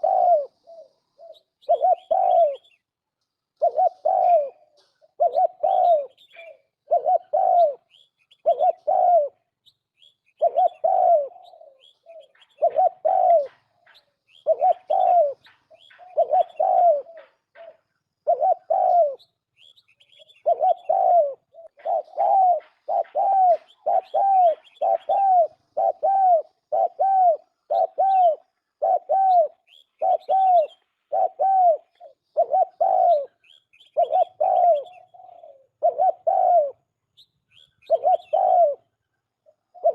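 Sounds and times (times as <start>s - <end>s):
dove cooing: 0.0s - 2.9s, 3.6s - 39.9s
faint high bird chirps: 0.0s - 39.9s.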